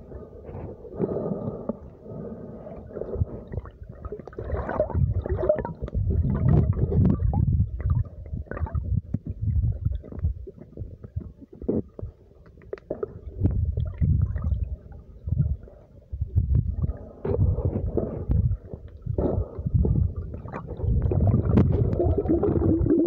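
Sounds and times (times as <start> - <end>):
underwater rumbling and gurgling: 0.0 - 23.0.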